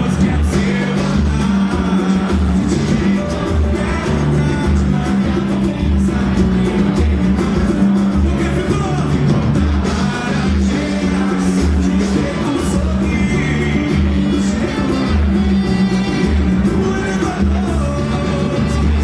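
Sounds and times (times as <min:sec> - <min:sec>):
band playing: 0:00.0 - 0:19.0
person singing: 0:00.0 - 0:19.0
steady bass beat: 0:00.0 - 0:19.0.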